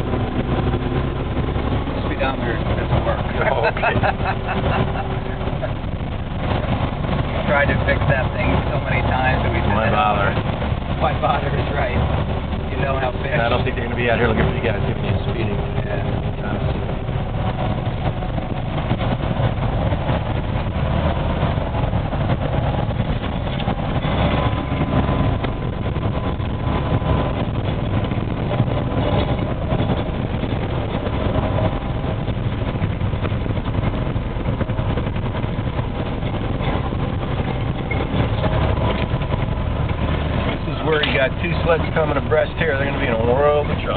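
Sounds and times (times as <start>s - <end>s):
snowmobile engine running: 0.0s - 43.9s.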